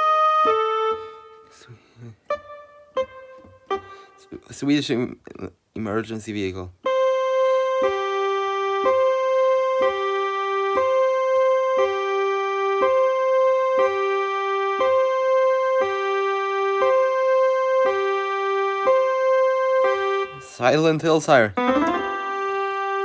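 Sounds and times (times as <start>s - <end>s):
keyboard playing two-tone siren: 0.0s - 1.5s, 2.3s - 4.3s, 6.8s - 20.8s, 21.5s - 23.0s.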